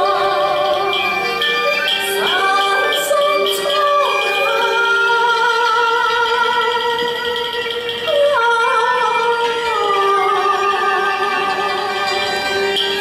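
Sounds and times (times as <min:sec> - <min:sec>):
instrumental accompaniment: 0:00.0 - 0:13.0
woman singing through microphone: 0:00.0 - 0:13.0.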